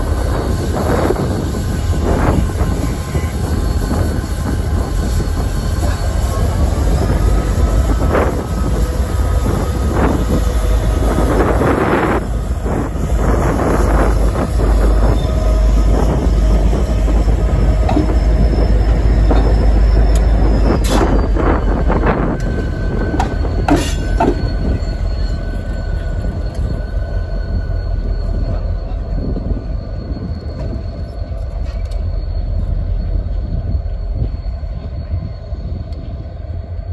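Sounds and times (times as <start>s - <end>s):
diesel locomotive engines rumbling: 0.0s - 36.9s
wheel squeal: 0.1s - 36.9s.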